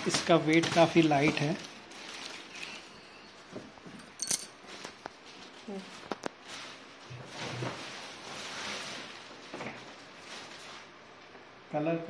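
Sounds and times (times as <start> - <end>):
plastic wrapping crinkling: 0.0 - 3.5, 4.6 - 11.1.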